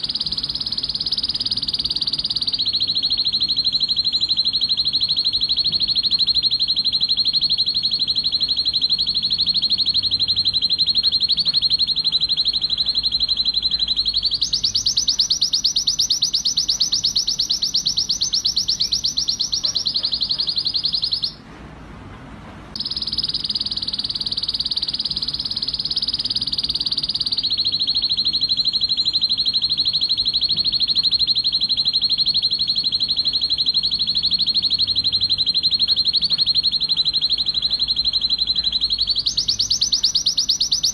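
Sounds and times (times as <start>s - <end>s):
canary singing fast trills: 0.0s - 21.4s, 22.8s - 40.9s.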